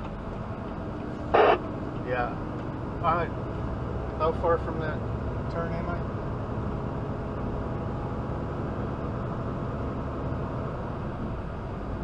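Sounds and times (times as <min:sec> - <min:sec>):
truck road and engine noise: 0:00.0 - 0:12.0.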